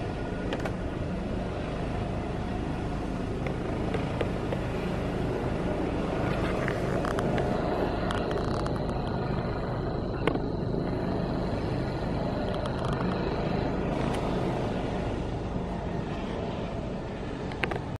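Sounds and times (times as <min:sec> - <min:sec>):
helicopter rotor and engine drone: 0:00.0 - 0:17.9
thin high whine: 0:00.0 - 0:17.9.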